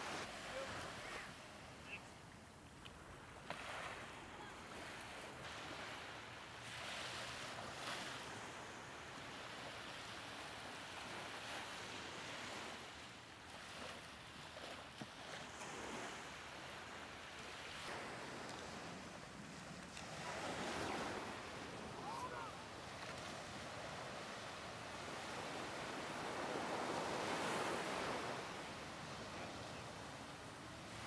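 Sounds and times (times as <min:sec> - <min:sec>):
small waves washing on beach: 0:00.0 - 0:02.0, 0:02.8 - 0:31.0.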